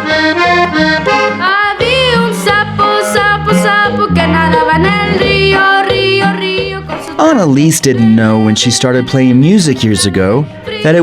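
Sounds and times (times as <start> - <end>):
accordion melody: 0.0 - 11.0
oom-pah bass line: 0.0 - 11.0.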